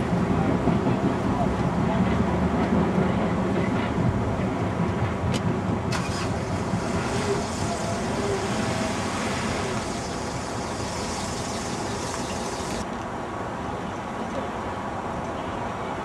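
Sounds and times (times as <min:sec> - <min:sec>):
train rumbling over a steel bridge: 0:00.0 - 0:12.8.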